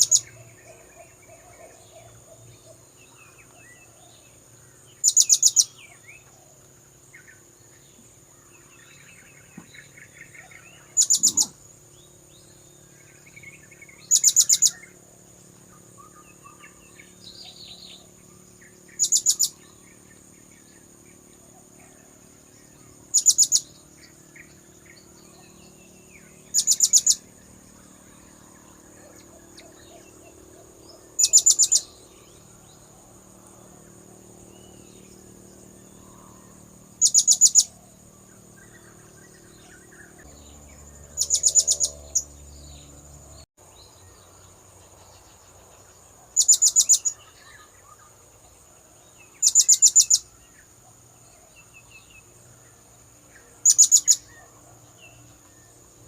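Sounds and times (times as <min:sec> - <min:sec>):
background birds: 0:00.0 - 0:56.0
insects: 0:00.0 - 0:56.0.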